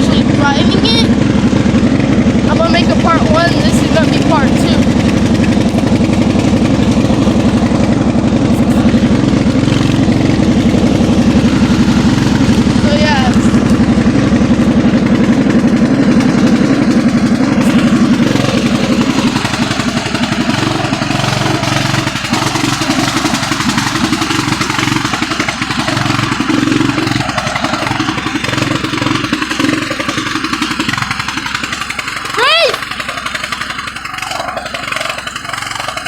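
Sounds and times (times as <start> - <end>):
riding lawn mower engine: 0.0 - 36.0.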